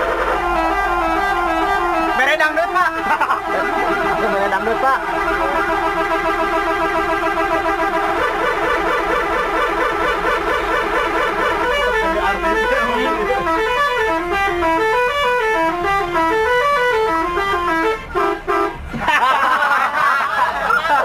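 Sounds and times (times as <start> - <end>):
multi-tone bus horn melody: 0.0 - 19.0.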